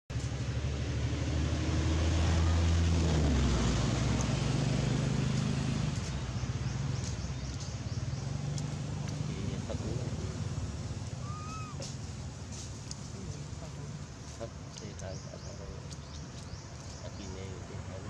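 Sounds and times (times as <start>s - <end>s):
engine humming: 0.1s - 18.0s.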